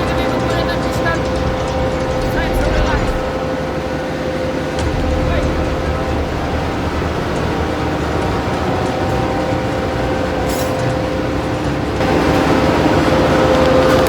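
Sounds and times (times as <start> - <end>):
engine room machinery drone: 0.0 - 14.0.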